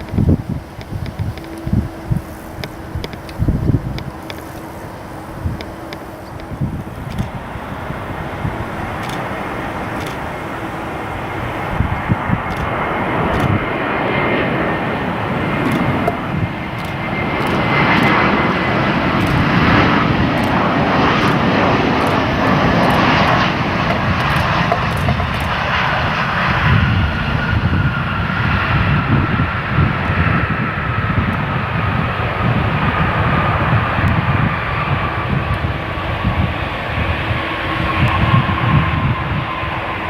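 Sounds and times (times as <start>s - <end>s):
jet engines running with whine: 0.0s - 40.0s.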